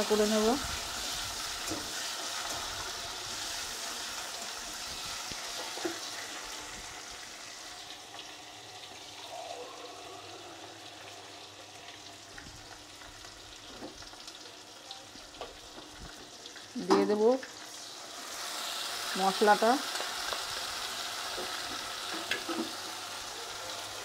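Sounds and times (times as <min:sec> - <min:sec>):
vegetables sizzling in hot oil: 0:00.0 - 0:24.0.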